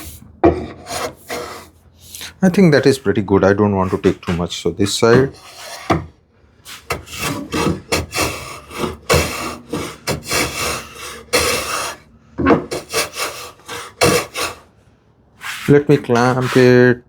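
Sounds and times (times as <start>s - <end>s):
hand plane shaving wood: 0.0s - 1.7s, 3.8s - 14.7s, 15.4s - 16.9s.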